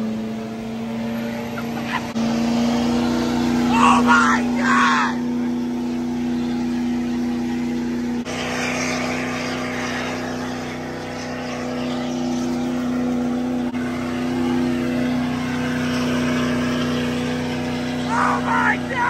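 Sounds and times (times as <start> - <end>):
tires spinning on pavement: 0.0 - 19.0
truck engine at high revs: 0.0 - 19.0.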